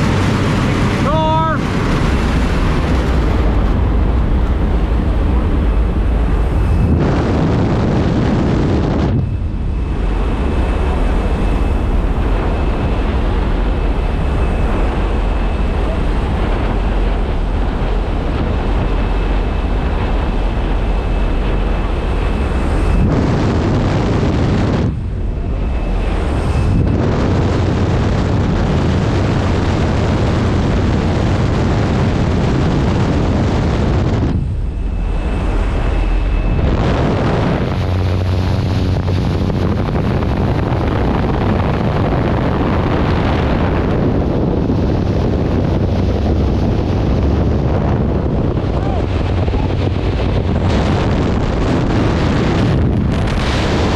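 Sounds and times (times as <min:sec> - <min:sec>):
loud rushing wind on microphone: 0:00.0 - 0:53.9.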